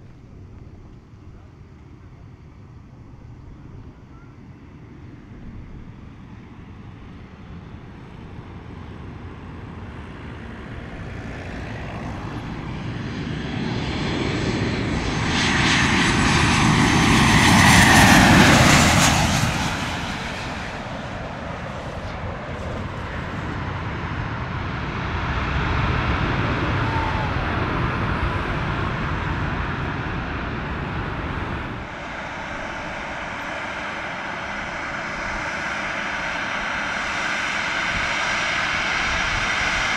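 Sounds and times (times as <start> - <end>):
airliner engine noise passing overhead: 0.0 - 39.9.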